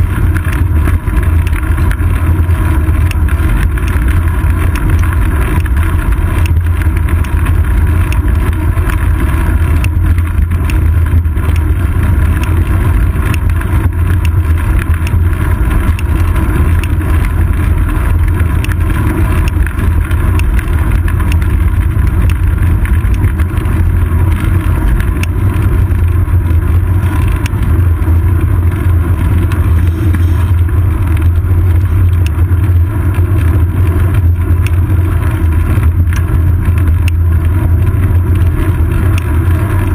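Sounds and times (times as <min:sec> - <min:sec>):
small rattling ticks: 0:00.0 - 0:39.9
wind and road rumble: 0:00.0 - 0:39.9.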